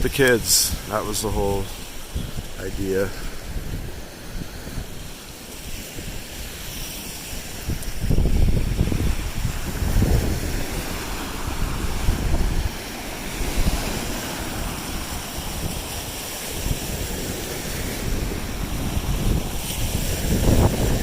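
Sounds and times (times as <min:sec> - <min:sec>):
waves washing onto beach: 0:00.0 - 0:21.0
wind rumbling on microphone: 0:00.0 - 0:21.0.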